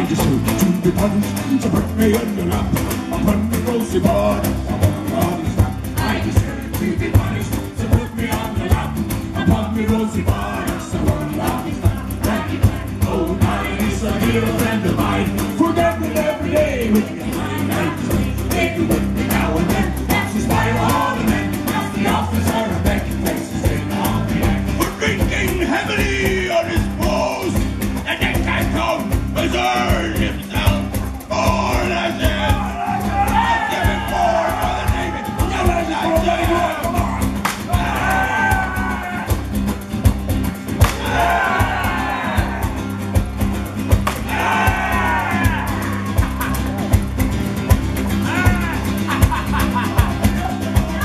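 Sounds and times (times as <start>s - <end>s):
voices singing: 0.0s - 39.8s, 40.7s - 51.0s
acoustic guitar strumming: 0.0s - 51.0s
folk-rock band playing: 0.0s - 51.0s.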